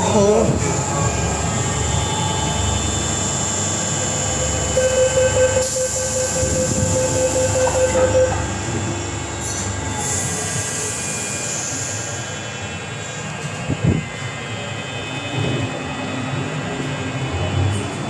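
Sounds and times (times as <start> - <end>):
train rumble and hum: 0.0 - 18.0
train wheels squealing: 1.0 - 16.1.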